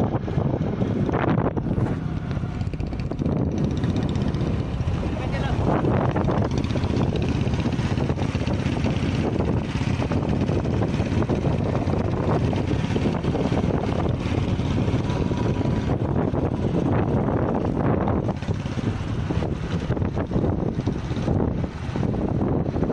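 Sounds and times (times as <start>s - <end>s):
motorcycle engine running: 0.0s - 22.9s
wind rushing over microphone: 0.0s - 22.9s.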